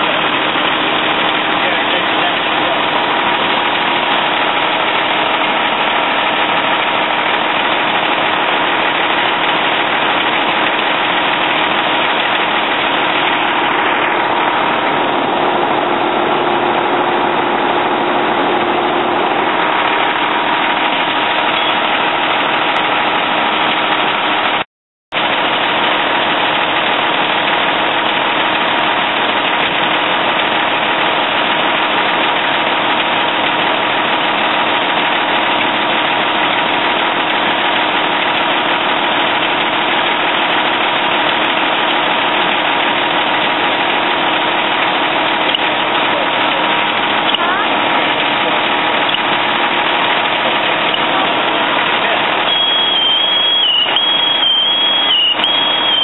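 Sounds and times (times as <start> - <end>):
fire engine engine droning: 0.0 - 24.6, 25.2 - 56.0.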